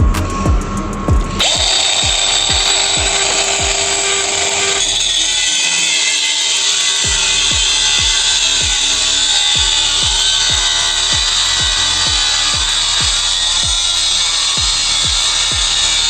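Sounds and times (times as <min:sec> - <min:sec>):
music with steady beat: 0:00.0 - 0:05.7, 0:06.9 - 0:16.0
angle grinder whining: 0:00.3 - 0:16.0.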